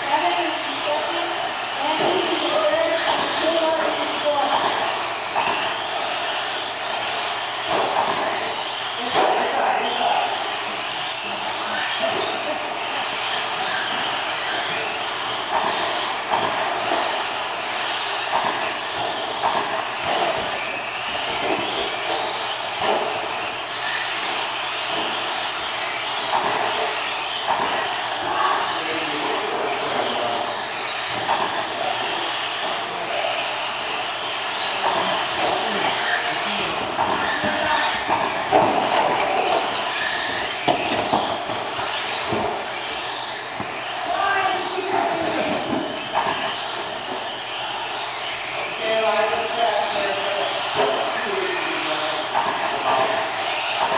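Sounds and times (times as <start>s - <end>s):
electric motors whining: 0.0s - 53.9s.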